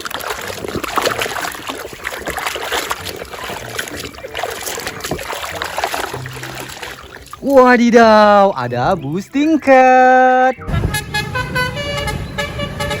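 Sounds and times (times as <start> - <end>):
water splashing and trickling: 0.0 - 10.5.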